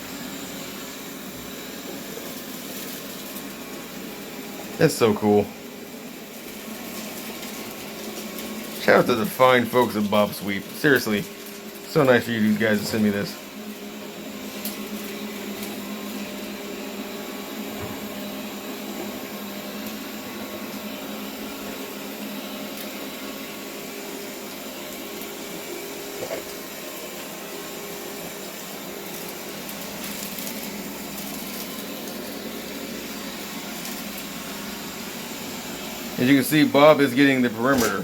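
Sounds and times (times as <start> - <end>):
robot vacuum motor hum: 0.0 - 38.0.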